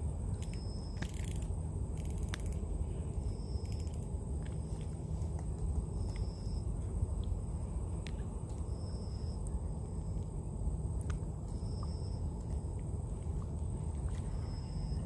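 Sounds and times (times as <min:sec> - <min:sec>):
insects high whine: 0:00.0 - 0:15.0
low steady rumble: 0:00.0 - 0:15.0.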